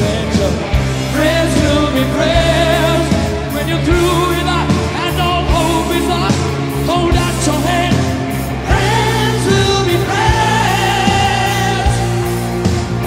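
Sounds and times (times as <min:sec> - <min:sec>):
person singing: 0:00.0 - 0:12.5
steady bass line: 0:00.0 - 0:13.0.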